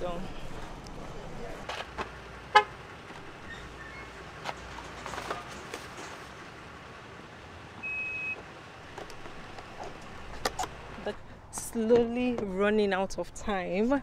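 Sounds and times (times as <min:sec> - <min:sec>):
car background noise: 0:00.0 - 0:14.0.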